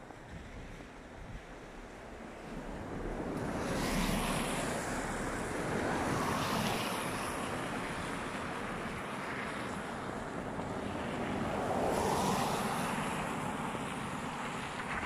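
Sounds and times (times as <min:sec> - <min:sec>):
steady rushing traffic: 0:00.1 - 0:15.0.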